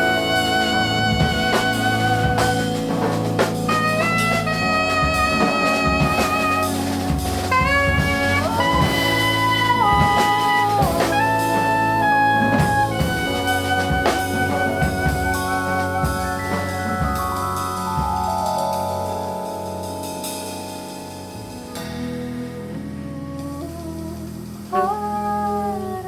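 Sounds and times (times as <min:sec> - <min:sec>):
walking double bass: 0:00.0 - 0:18.7, 0:21.3 - 0:26.0
drum kit with cymbals: 0:00.0 - 0:25.8
alto saxophone: 0:00.0 - 0:26.0.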